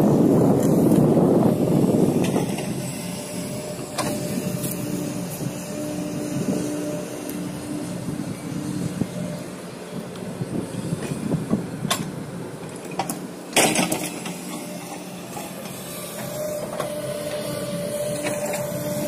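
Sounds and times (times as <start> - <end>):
excavator engine hum: 0.0 - 19.0.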